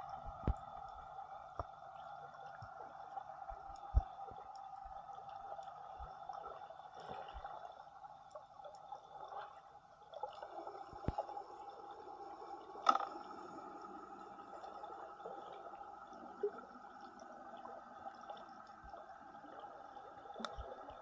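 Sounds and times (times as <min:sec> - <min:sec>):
faint ticks: 0:00.0 - 0:09.0, 0:10.9 - 0:11.4, 0:12.4 - 0:15.0, 0:16.1 - 0:21.0.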